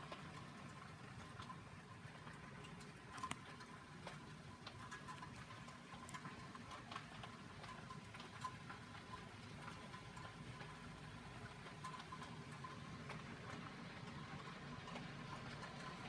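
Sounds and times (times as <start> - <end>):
hail pattering: 0.0 - 16.0
hailstones ticking: 0.0 - 16.0.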